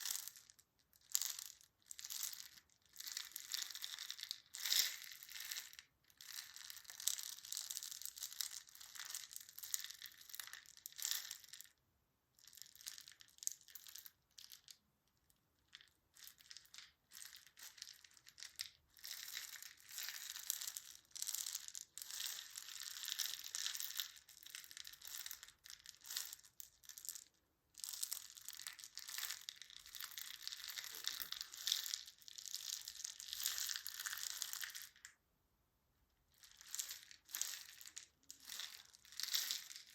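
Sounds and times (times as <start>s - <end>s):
crinkling and crackling: 0.0s - 11.5s, 15.6s - 35.2s, 36.4s - 39.9s.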